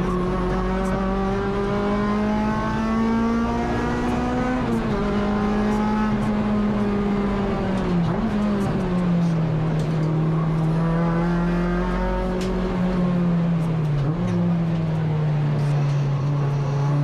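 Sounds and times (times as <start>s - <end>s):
race car engine revving high: 0.0s - 17.0s.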